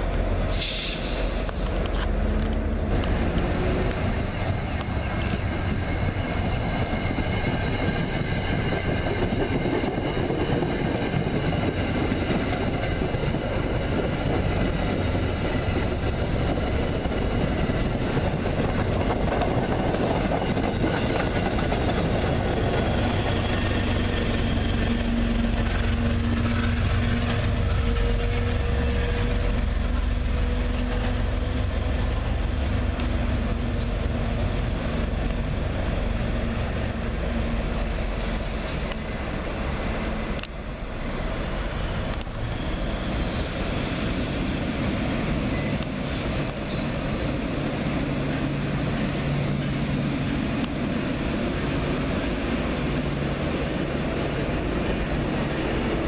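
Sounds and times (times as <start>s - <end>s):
diesel locomotive engine drone: 0.0s - 56.0s
diesel train approaching: 0.0s - 56.0s.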